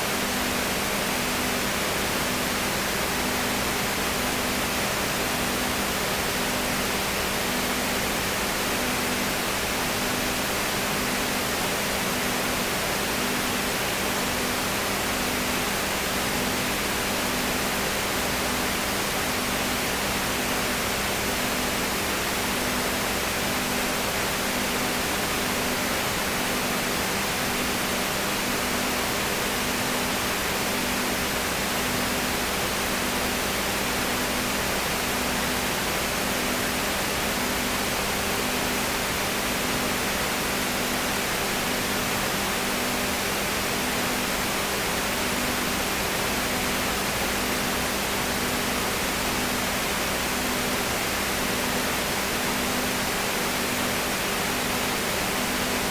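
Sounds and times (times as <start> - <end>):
steady noise hiss: 0.0 - 55.9.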